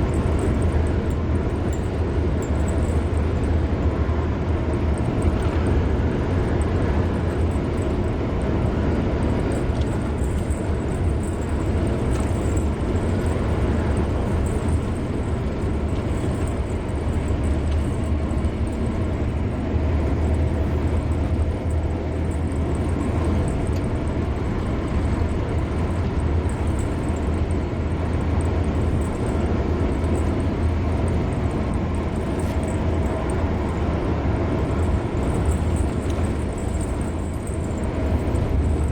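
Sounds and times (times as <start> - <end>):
car road noise at speed: 0.0 - 38.9.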